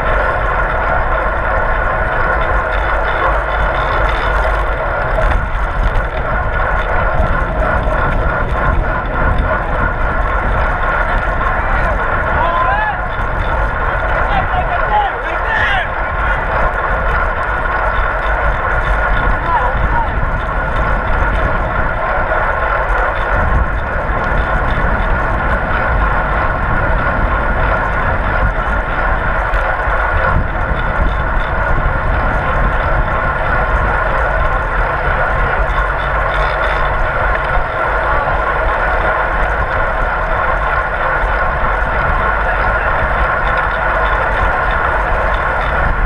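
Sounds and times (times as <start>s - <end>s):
whir of bicycle tyres and drivetrain: 0.0s - 46.0s
wind rush: 0.0s - 46.0s.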